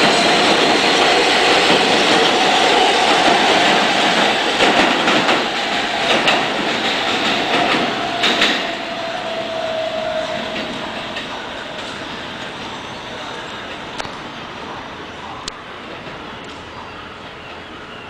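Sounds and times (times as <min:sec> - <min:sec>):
subway wheels clattering over rail joints: 0:00.0 - 0:18.0.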